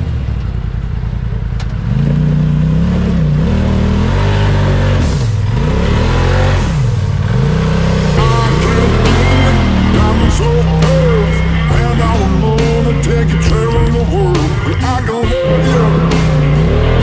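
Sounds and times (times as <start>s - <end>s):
utv engine revving: 0.0s - 17.0s.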